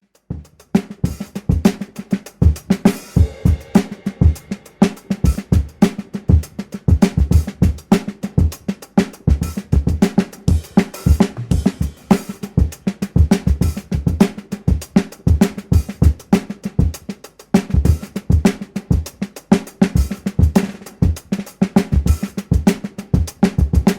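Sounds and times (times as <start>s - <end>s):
drum kit playing fast groove: 0.1s - 23.9s.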